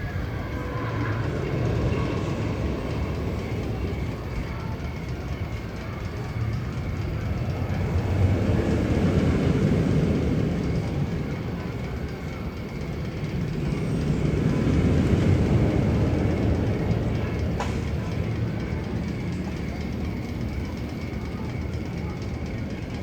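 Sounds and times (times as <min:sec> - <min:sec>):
low train-like rumbling: 0:00.0 - 0:23.0.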